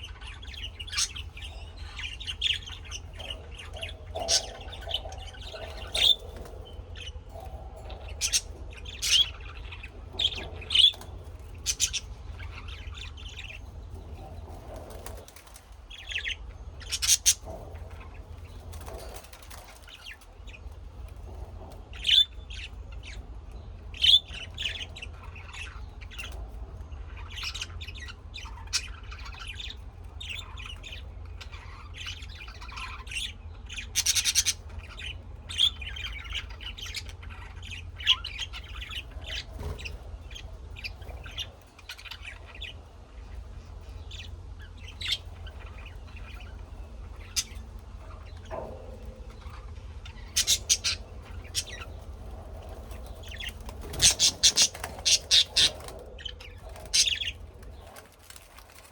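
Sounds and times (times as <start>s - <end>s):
birds chirping and squawking: 0.0s - 58.9s
low steady hum: 0.0s - 58.9s.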